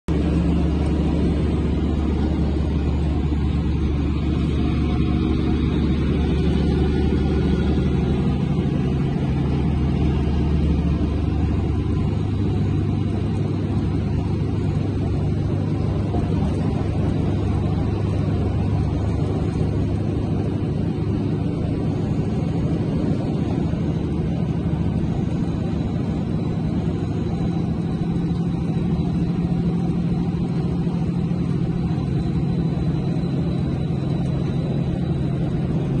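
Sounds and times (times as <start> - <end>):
highway tyre and engine rumble: 0.0 - 36.0.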